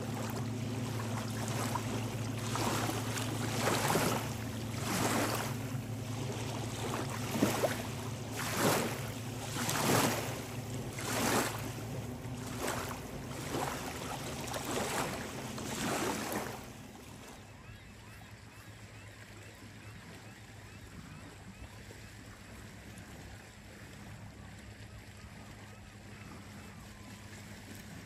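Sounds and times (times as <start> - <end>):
lake waves lapping: 0.0 - 28.0
steady low hum: 0.0 - 28.0.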